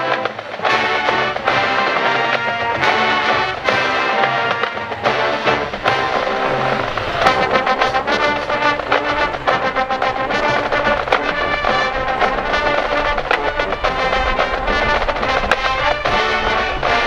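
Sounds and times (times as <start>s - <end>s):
brass sustaining chords: 0.0s - 17.0s
sharp percussion hits: 0.0s - 17.0s.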